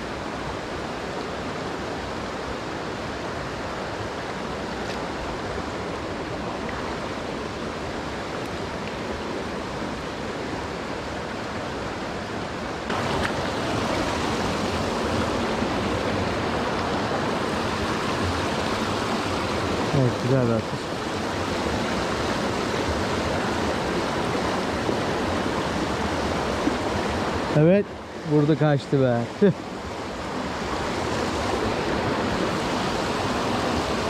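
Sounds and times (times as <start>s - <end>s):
creek rushing: 0.0s - 34.0s.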